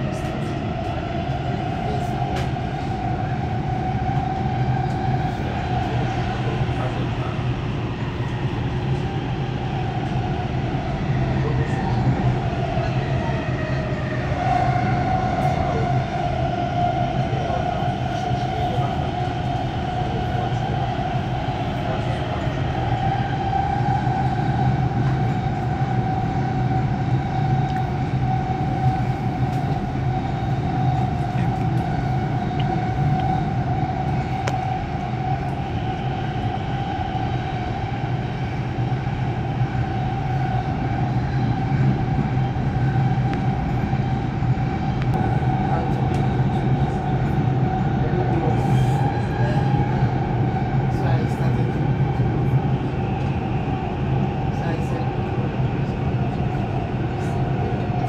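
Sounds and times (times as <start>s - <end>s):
constant whine: 0.0s - 58.0s
electric train rumble: 0.0s - 58.0s.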